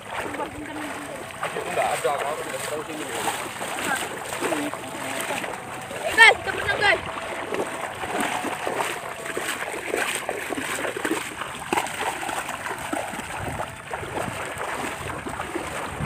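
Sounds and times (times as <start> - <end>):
legs wading through muddy water: 0.0 - 16.0.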